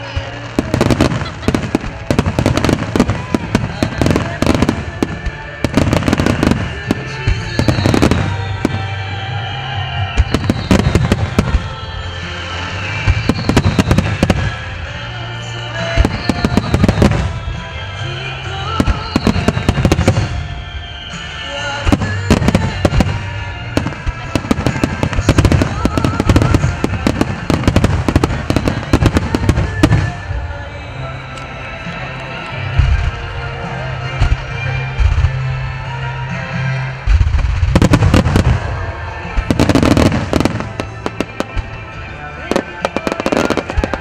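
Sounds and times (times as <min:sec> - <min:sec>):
fireworks bursting: 0:00.0 - 0:31.6, 0:32.7 - 0:35.8, 0:36.8 - 0:44.0
fireworks crackling: 0:00.0 - 0:44.0
music: 0:00.0 - 0:44.0.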